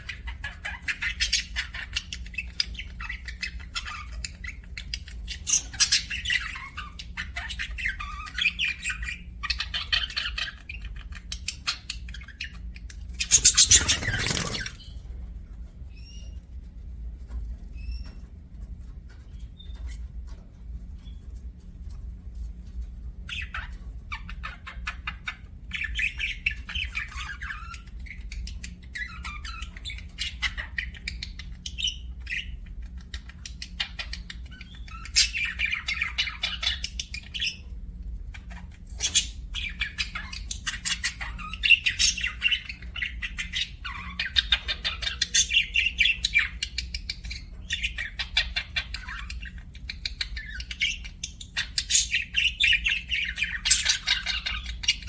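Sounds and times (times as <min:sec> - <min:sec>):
budgerigars chattering and squawking: 0:00.0 - 0:15.0, 0:23.3 - 0:55.0.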